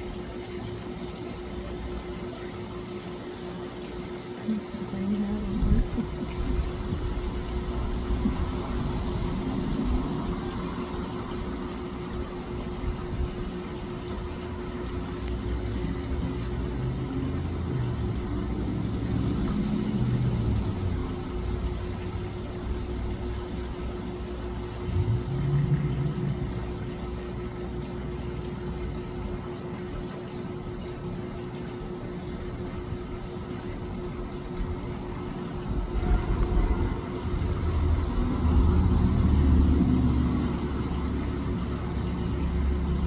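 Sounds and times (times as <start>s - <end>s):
constant low hum: 0.0s - 43.0s
traffic rumble: 4.5s - 43.0s.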